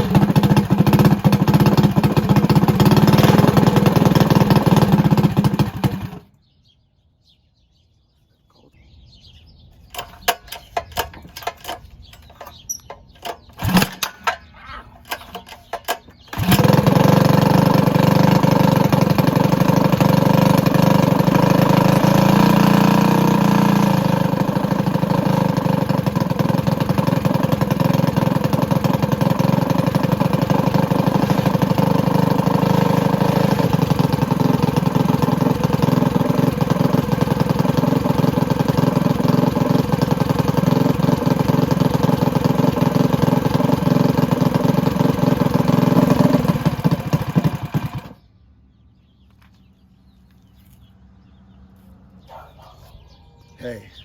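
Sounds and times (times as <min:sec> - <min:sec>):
small engine running: 0:00.0 - 0:06.3, 0:09.9 - 0:48.3.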